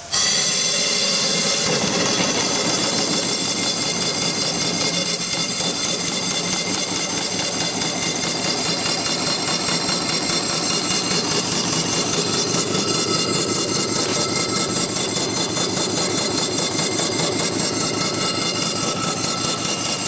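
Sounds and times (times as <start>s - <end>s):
steam engine exhaust chuffs: 0.0s - 20.0s
steam hissing: 0.0s - 20.0s.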